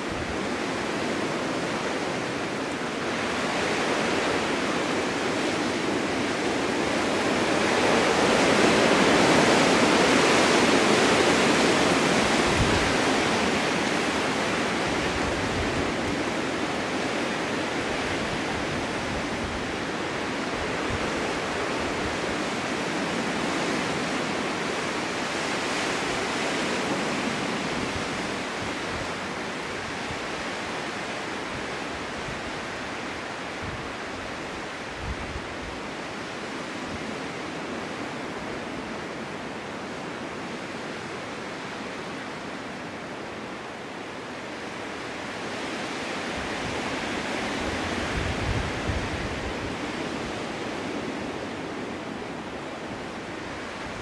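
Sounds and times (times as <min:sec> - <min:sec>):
snowstorm wind gusts: 0:00.0 - 0:54.0.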